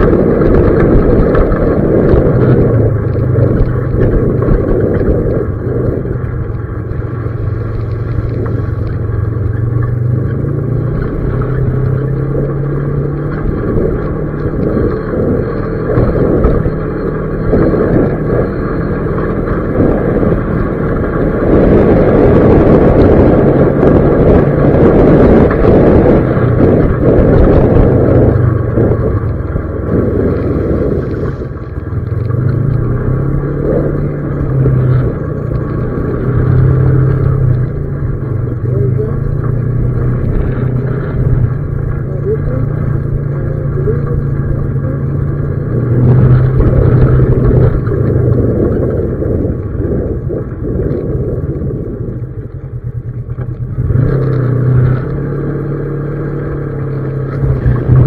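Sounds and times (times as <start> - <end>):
road and tyre noise: 0.0 - 58.0
vehicle engine running: 0.0 - 58.0.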